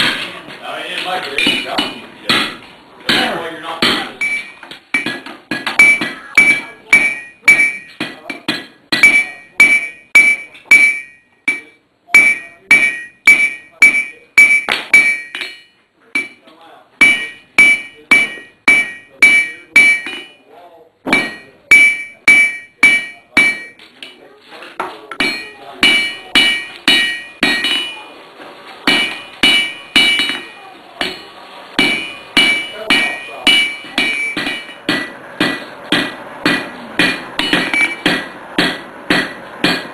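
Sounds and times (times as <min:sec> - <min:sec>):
hammer striking on anvil: 0:01.3 - 0:16.4, 0:17.0 - 0:20.4, 0:21.1 - 0:24.2, 0:24.8 - 0:28.1, 0:28.8 - 0:39.9.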